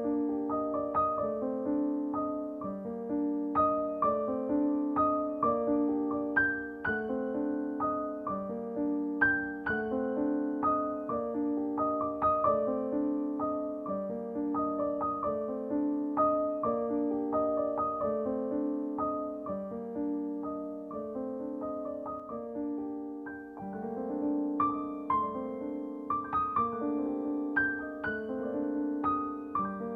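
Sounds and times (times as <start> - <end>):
gentle piano music: 0.0 - 29.9.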